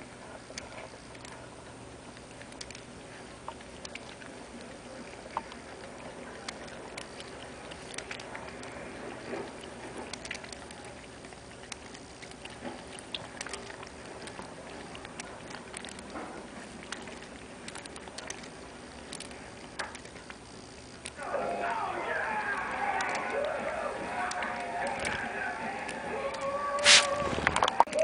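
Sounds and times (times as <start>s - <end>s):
cat lapping water: 0.0s - 28.0s.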